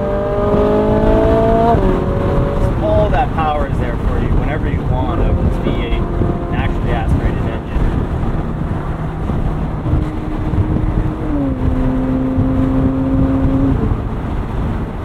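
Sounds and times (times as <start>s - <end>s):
car engine cruising: 0.0s - 15.0s
road and wind rumble: 0.0s - 15.0s.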